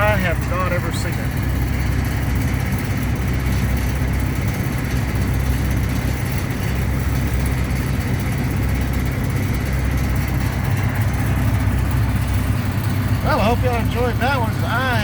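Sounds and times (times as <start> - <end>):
air conditioning running: 0.0 - 15.0
truck engine idling: 0.0 - 15.0.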